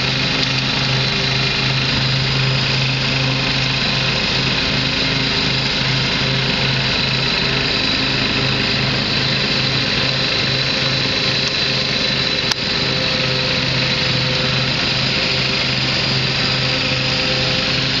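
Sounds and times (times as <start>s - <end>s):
garden tractor engine mowing: 0.0s - 18.0s.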